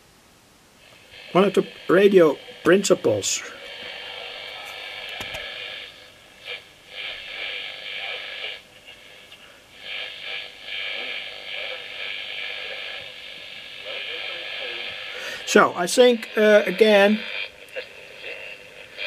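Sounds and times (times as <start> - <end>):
radio hiss and rattling noise: 0.7 - 19.0.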